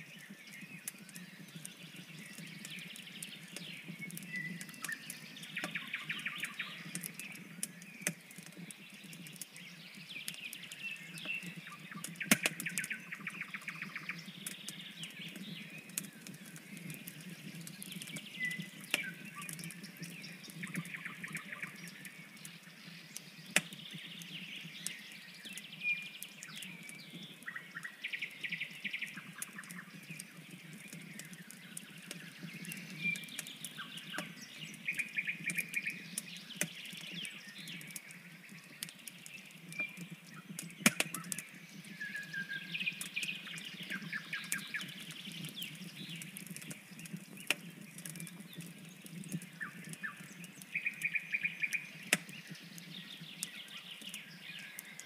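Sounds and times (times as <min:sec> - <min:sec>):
campfire crackling: 0:00.0 - 0:55.0
small birds singing: 0:00.0 - 0:55.0.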